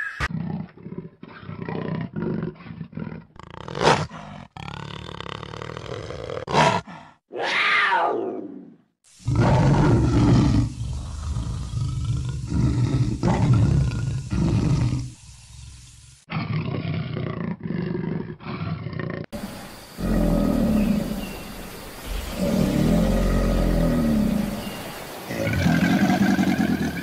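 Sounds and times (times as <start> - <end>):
big cat roaring and growling: 0.3 - 15.2, 16.3 - 27.0.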